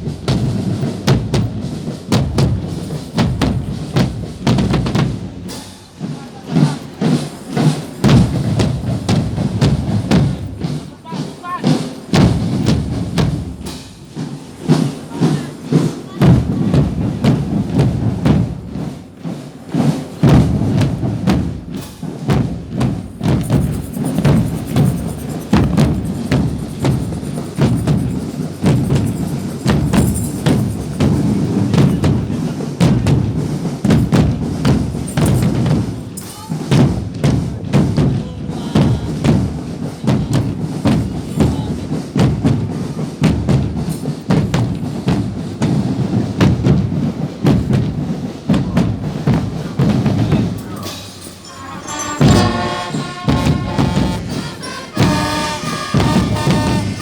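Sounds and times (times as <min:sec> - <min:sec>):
music with drums and percussion: 0:00.0 - 0:57.0.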